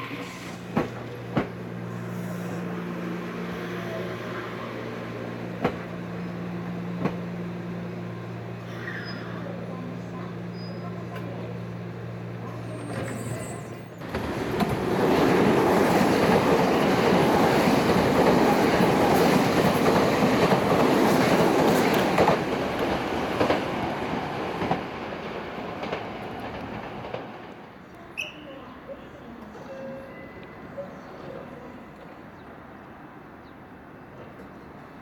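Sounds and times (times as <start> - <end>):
express train passing at speed: 0.0 - 35.0.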